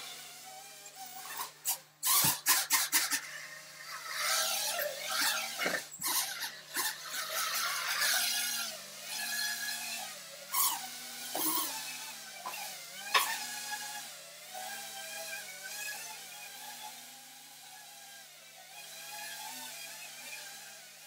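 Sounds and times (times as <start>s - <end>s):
drone motors whining: 0.0s - 17.1s.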